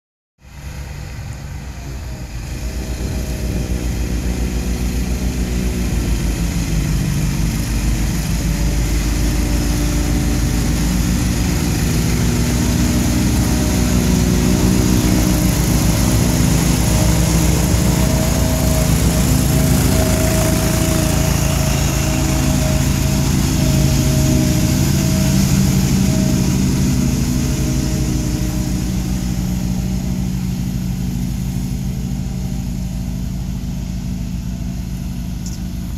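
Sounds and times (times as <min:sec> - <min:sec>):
snow blower engine under load: 0:00.4 - 0:35.9.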